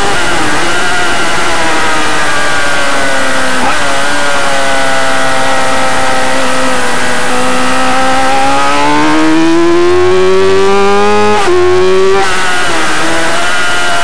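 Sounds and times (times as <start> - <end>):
racing motorcycle engine revving: 0.0 - 14.0.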